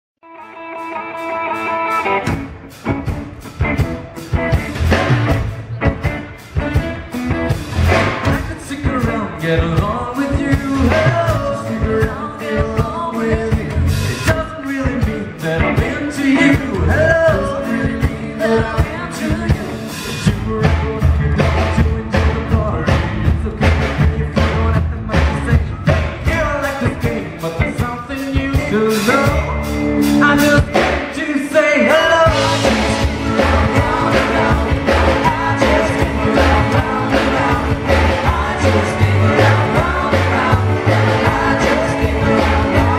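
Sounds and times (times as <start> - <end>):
rockabilly band playing: 0.2 - 42.9
person singing: 8.1 - 42.9.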